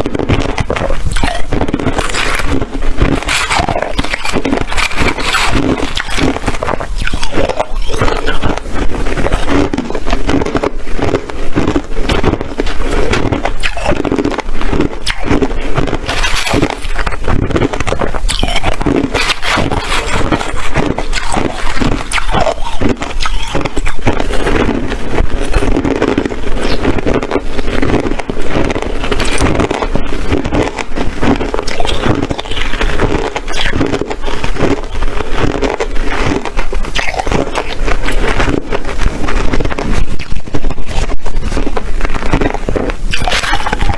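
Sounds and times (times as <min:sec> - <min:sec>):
person chewing ice crunching: 0:00.0 - 0:43.9.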